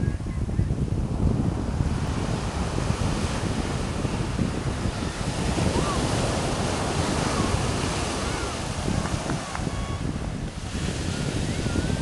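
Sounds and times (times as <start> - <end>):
ocean surf breaking on beach: 0.0 - 12.0
wind buffeting microphone: 0.0 - 12.0.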